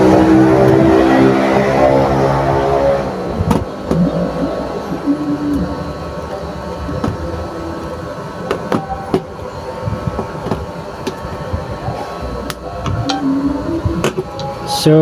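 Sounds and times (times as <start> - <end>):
wires and connectors clicking: 0.0 - 14.7
steady low rumble: 0.0 - 15.0.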